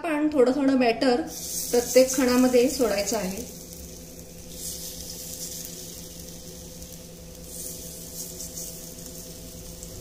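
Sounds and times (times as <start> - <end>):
steady low hum: 0.0 - 10.0
batter sizzling in a pan: 1.3 - 10.0.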